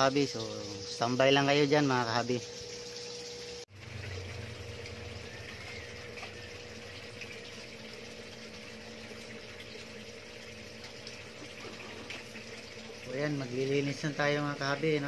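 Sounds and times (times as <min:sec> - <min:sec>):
filter pump humming: 0:00.0 - 0:15.0
water trickling and splashing: 0:00.0 - 0:15.0.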